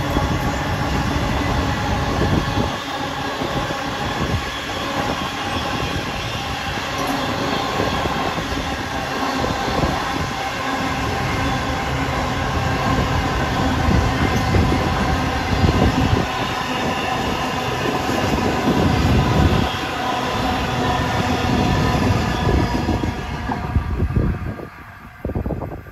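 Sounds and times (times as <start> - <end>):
freight train rumbling: 0.0 - 25.9
wheels ringing on rails: 0.0 - 25.9.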